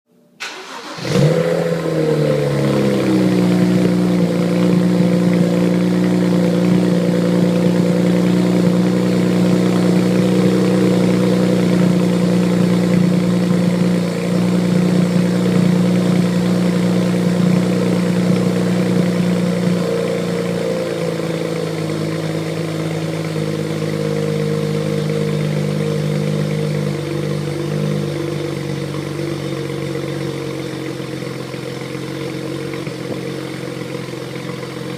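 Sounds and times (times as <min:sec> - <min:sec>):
car engine cold start and idle: 0:00.2 - 0:34.9.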